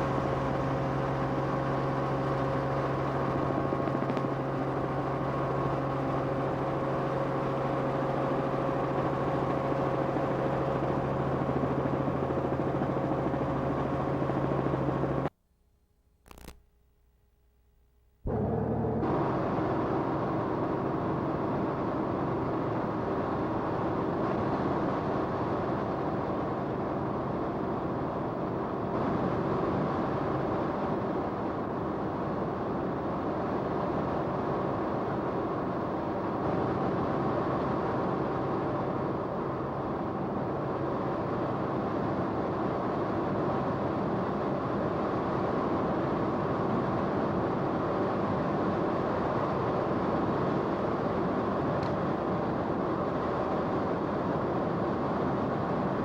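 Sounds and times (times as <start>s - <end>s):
aircraft engine drone in cabin: 0.0s - 15.3s, 18.3s - 56.0s.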